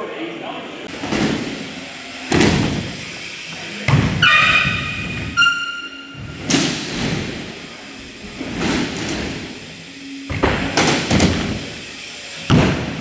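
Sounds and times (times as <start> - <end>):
bike wheels thudding on ramps: 0.9 - 13.0.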